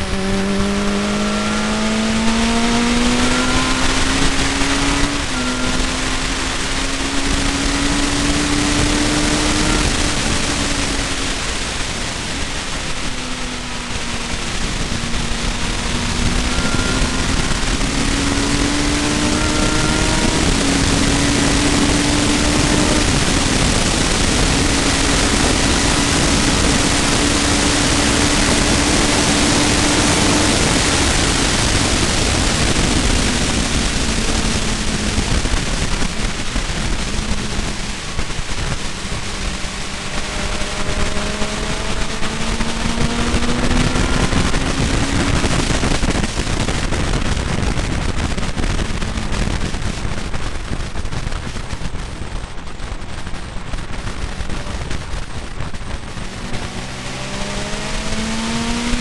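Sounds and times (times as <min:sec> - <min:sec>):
car engine accelerating: 0:00.0 - 0:59.0
wind and road noise: 0:00.0 - 0:59.0.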